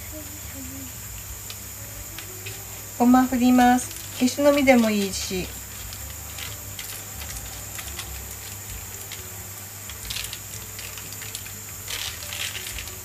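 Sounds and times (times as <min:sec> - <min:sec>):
seeds sprinkling patter: 0:00.0 - 0:13.0.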